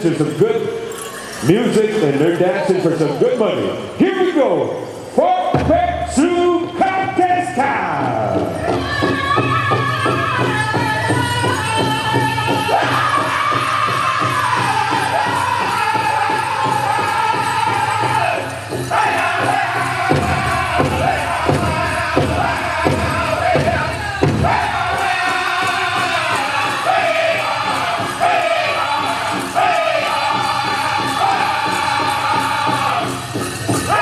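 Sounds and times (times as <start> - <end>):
high voices singing: 0.0 - 34.0
big drum beat: 5.6 - 34.0.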